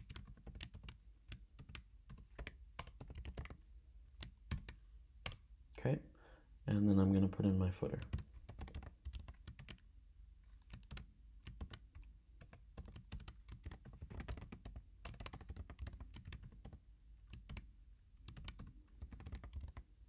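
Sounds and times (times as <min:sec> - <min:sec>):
keyboard typing: 0:00.0 - 0:05.6, 0:07.8 - 0:20.0.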